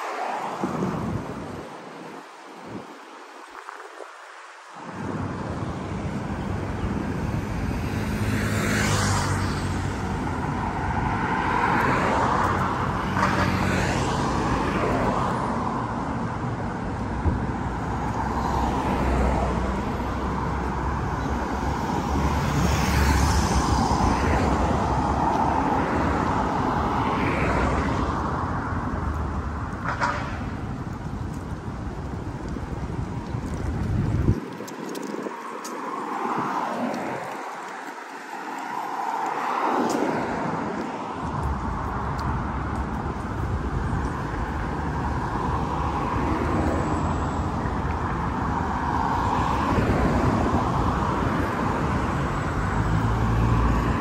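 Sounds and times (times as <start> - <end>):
cars passing: 0.0 - 54.0
traffic hum of engines and tyres: 0.0 - 54.0.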